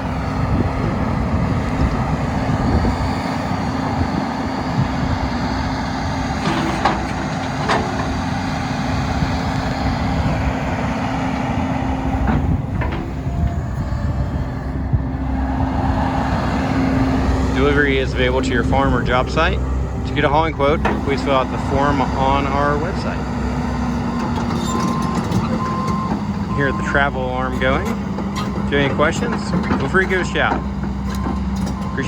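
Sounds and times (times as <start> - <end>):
excavator diesel engine humming: 0.0 - 32.0.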